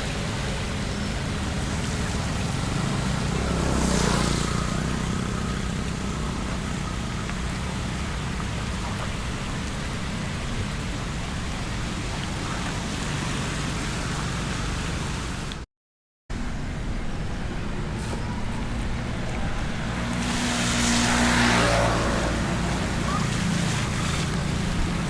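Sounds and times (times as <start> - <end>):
steady rain: 0.0 - 15.6, 16.4 - 25.0
road traffic on flooded road: 0.0 - 15.7, 16.3 - 25.0.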